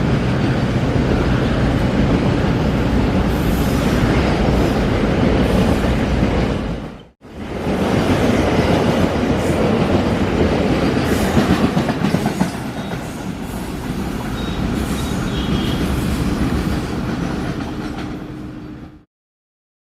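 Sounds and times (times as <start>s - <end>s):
train wheels clattering on rails: 0.0s - 18.6s.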